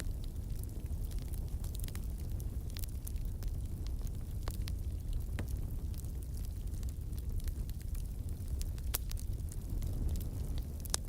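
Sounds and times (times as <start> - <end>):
low rumble of flames: 0.0 - 11.0
wood fire crackling and popping: 0.0 - 11.0.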